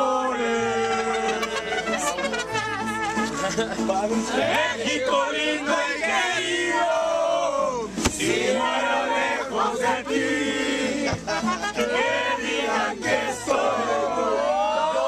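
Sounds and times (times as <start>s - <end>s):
men singing and shouting: 0.0s - 15.0s.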